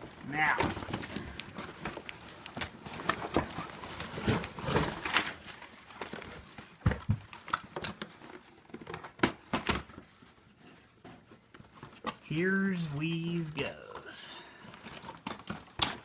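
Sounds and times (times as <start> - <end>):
packaging rustling and scraping: 0.0 - 12.3, 13.6 - 16.0.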